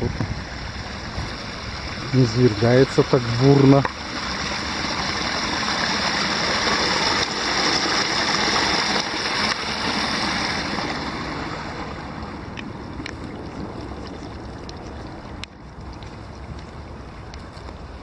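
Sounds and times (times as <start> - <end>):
small waterfall splashing: 0.0 - 15.5.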